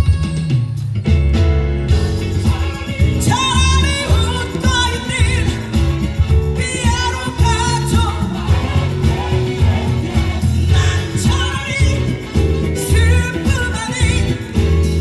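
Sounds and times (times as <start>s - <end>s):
live pop band: 0.0s - 15.0s
woman singing with vibrato: 2.0s - 14.8s.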